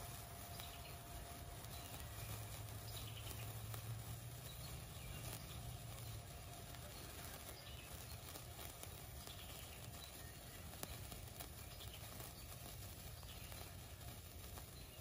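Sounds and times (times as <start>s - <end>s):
low hum: 0.0s - 14.4s
sparkler fizzing and crackling: 0.0s - 15.0s.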